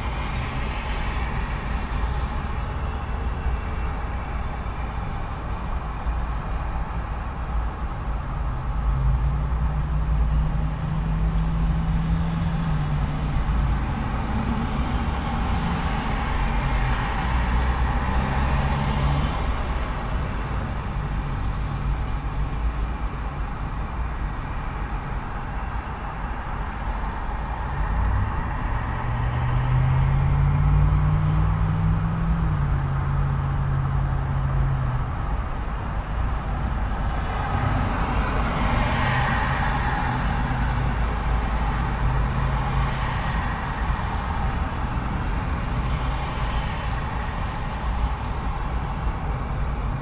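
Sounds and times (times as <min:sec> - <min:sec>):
low engine hum: 0:00.0 - 0:50.0
road traffic rumble: 0:00.0 - 0:50.0.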